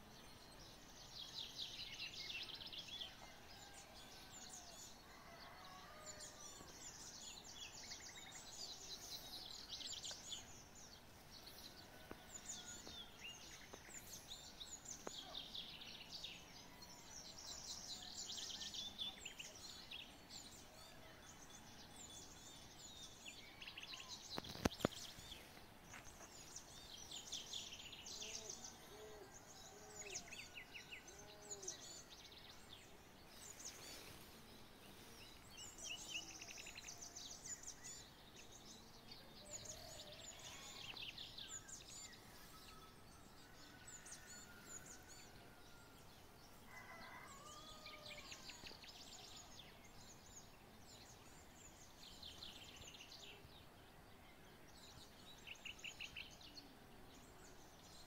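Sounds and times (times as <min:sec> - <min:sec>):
birds chirping and trilling: 0:00.0 - 0:58.0.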